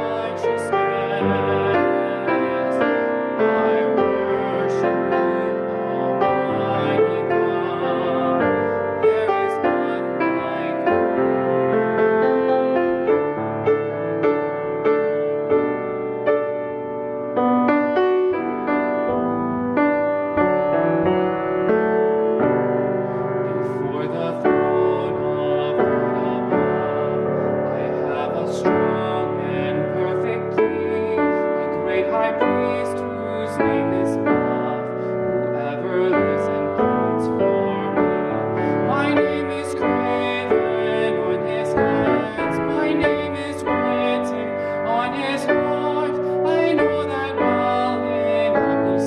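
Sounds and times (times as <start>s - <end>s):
piano music: 0.0s - 49.0s.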